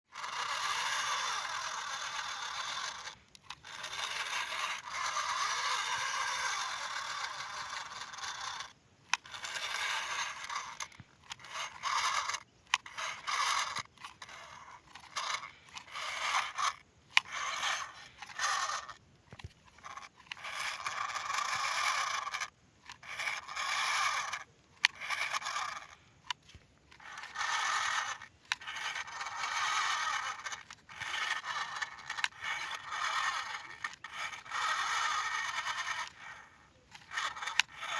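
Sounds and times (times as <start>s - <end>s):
toy vehicles scraping over surface: 0.1s - 37.9s.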